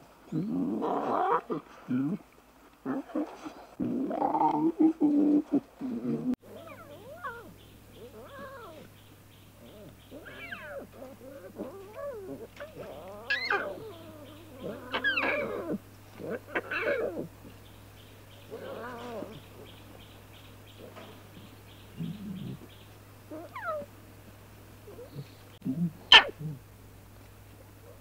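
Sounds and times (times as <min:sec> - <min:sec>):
lion cubs calling: 0:02.9 - 0:24.0, 0:24.8 - 0:26.7.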